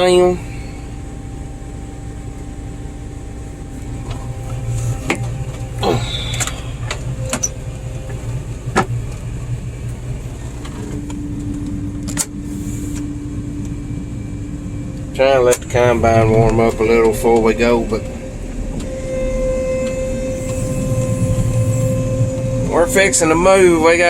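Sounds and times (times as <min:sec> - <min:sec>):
harvester engine idling: 0:00.0 - 0:24.0.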